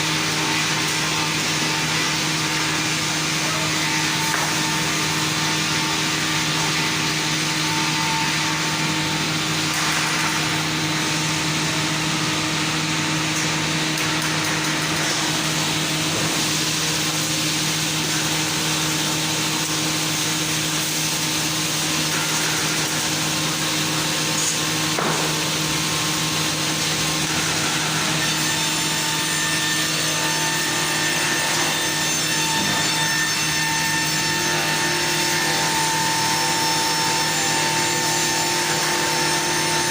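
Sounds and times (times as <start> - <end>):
circular saw sawing wood: 0.0 - 39.9.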